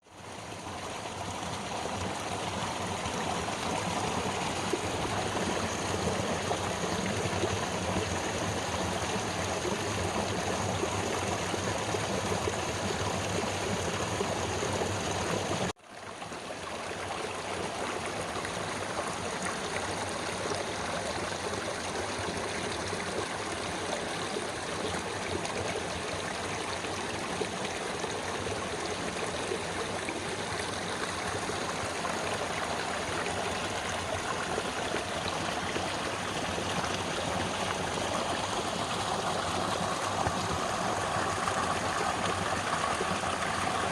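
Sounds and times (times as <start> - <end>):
stream flowing: 0.0 - 43.9.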